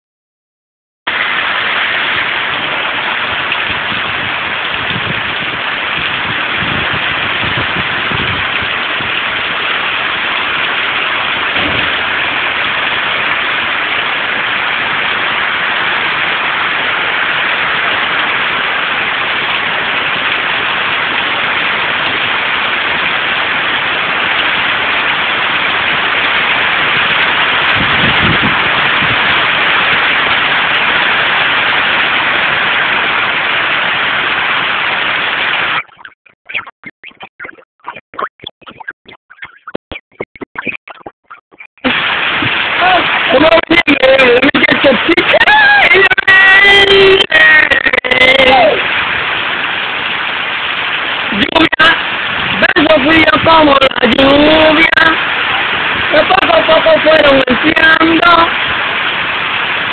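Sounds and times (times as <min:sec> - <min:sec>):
steady rain downpour: 0:01.1 - 0:35.8, 0:41.8 - 0:59.9.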